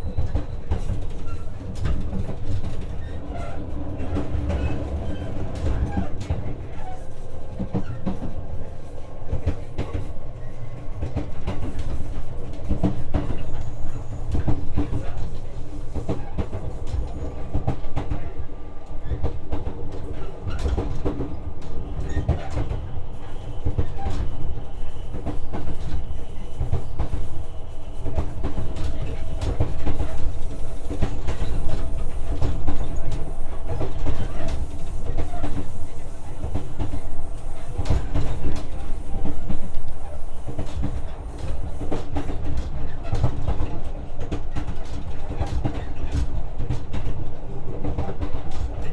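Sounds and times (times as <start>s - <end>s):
steady train hum: 0.0s - 48.9s
train wheels rumbling on rail: 0.0s - 48.9s.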